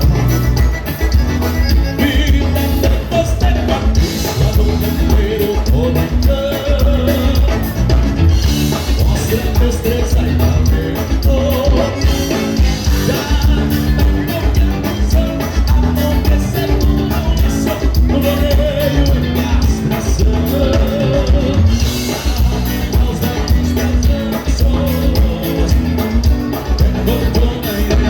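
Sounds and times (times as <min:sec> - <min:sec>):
live dance band playing: 0:00.0 - 0:28.0.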